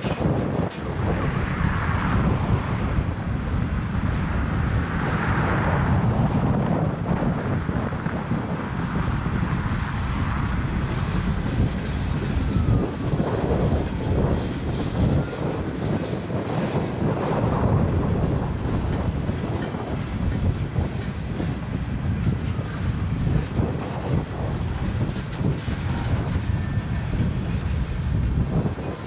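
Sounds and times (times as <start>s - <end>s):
wheels clacking over rail joints: 0.0s - 4.4s, 6.2s - 29.0s
steel wheels rumbling on rail: 0.0s - 29.0s.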